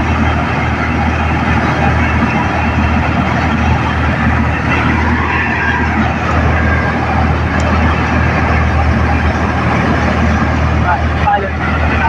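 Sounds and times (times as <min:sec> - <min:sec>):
combine harvester engine drone: 0:00.0 - 0:12.0
loud machinery noise: 0:00.0 - 0:12.0.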